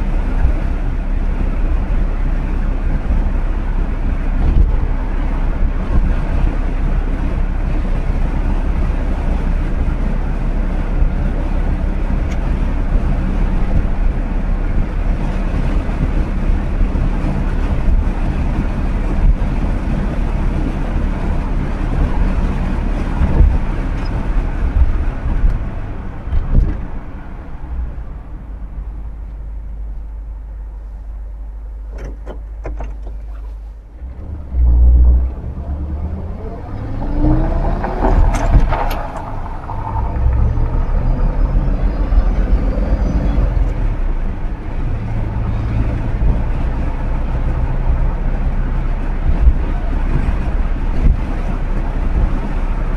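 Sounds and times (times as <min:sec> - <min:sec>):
car engine driving: 0:00.0 - 0:52.9
road noise: 0:00.0 - 0:52.9.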